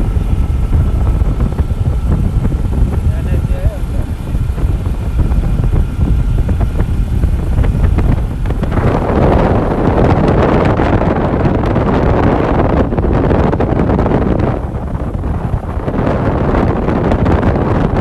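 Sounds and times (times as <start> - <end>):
vehicle engine and road rumble: 0.0 - 18.0
wind rushing on microphone: 0.0 - 18.0.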